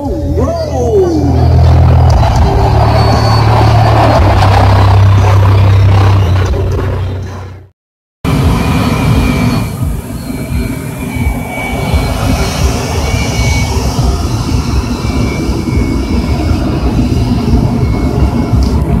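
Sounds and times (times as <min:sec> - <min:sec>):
jet engines rumbling: 0:00.0 - 0:07.7, 0:08.3 - 0:19.0
jet engine whine: 0:00.0 - 0:19.0.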